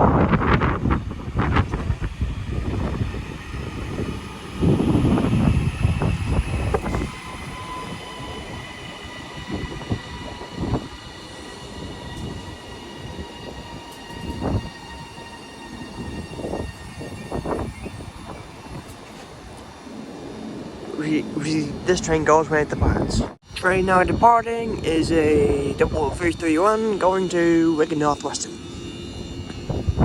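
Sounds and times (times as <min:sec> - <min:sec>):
high electric whine of train: 0:00.0 - 0:30.0
train rumble: 0:00.0 - 0:30.0.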